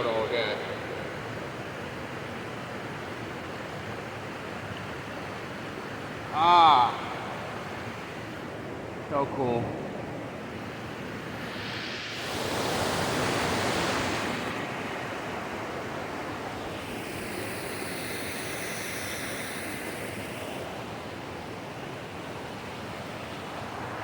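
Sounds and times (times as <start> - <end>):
mountain stream rushing and splashing: 0.0 - 24.0.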